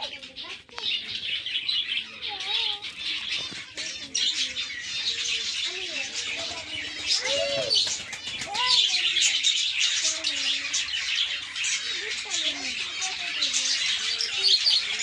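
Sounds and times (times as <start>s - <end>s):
small birds chirping and chattering: 0.0s - 15.0s.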